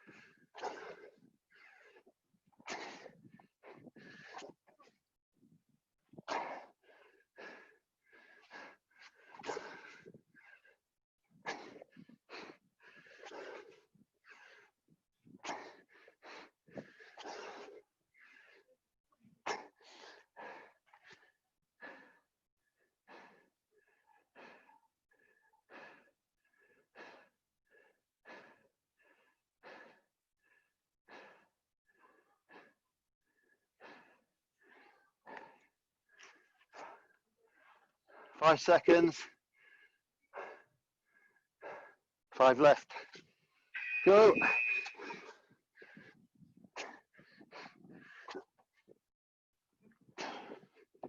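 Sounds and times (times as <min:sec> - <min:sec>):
person panting hard: 0:00.0 - 0:04.9, 0:06.1 - 0:18.8, 0:19.5 - 0:38.4, 0:39.2 - 0:42.1, 0:42.8 - 0:43.5, 0:44.9 - 0:49.0, 0:50.0 - 0:51.0.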